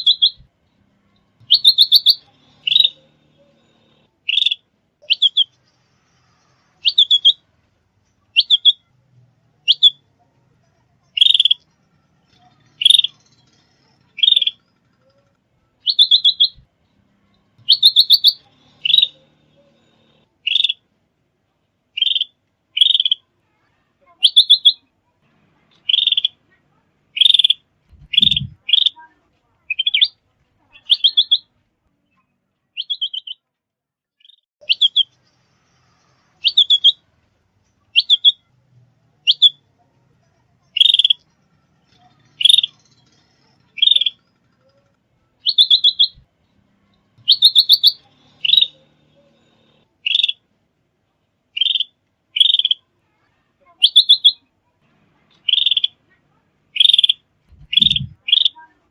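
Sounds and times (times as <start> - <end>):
songbird chirping and trilling: 0.0 - 5.8, 6.7 - 20.9, 21.9 - 23.3, 24.0 - 24.9, 25.7 - 33.5, 34.2 - 35.3, 36.4 - 37.1, 37.9 - 38.5, 39.2 - 39.7, 40.6 - 50.5, 51.5 - 52.9, 53.6 - 54.5, 55.3 - 56.0, 56.7 - 58.9.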